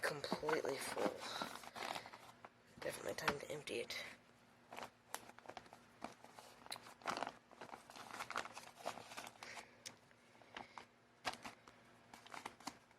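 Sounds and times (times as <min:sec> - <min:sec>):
rustling and crinkling: 0:00.0 - 0:04.0, 0:04.6 - 0:12.9.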